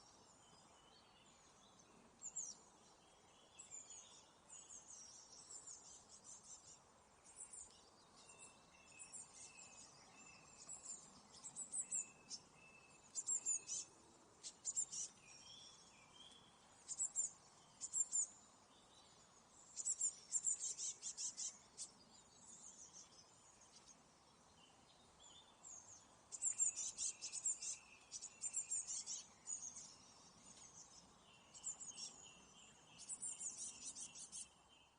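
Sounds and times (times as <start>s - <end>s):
faint outdoor background: 0.0s - 34.9s
songbirds chirping: 0.0s - 34.9s.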